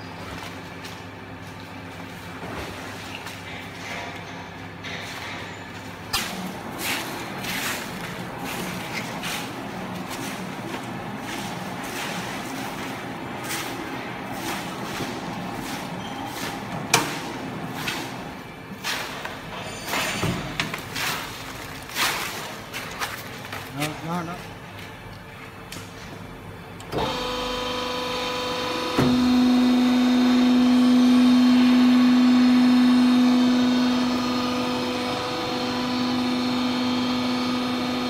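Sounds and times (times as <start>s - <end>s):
steady low hum: 0.0s - 36.8s.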